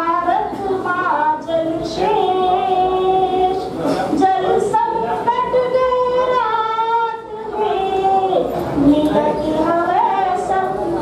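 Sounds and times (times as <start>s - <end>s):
woman singing into a microphone: 0.0s - 11.0s.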